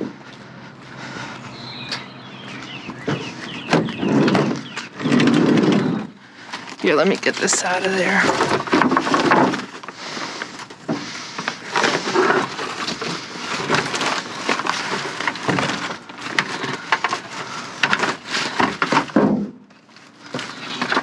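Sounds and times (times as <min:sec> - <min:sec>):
wood pieces knocking and scraping: 0:02.6 - 0:21.0.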